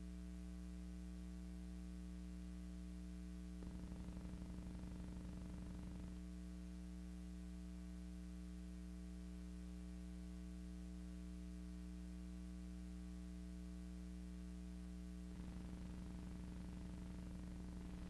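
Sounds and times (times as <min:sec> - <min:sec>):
low electrical mains hum: 0:00.0 - 0:18.0.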